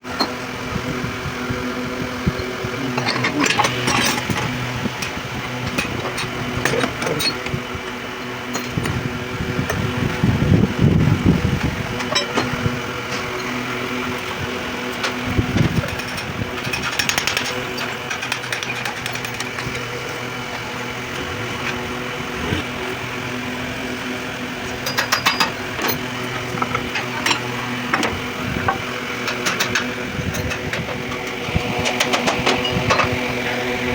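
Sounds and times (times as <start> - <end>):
machine hum: 0.0 - 33.9.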